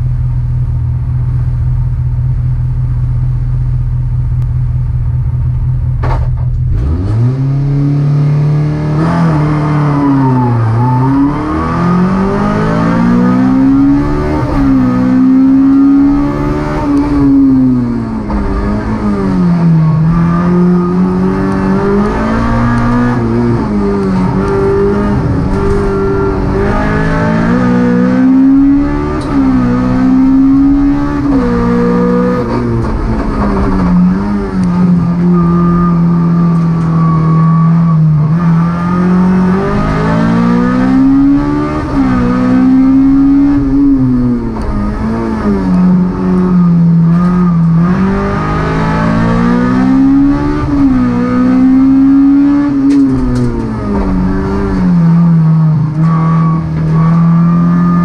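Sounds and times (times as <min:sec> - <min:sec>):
race car engine revving: 0:05.9 - 0:58.0.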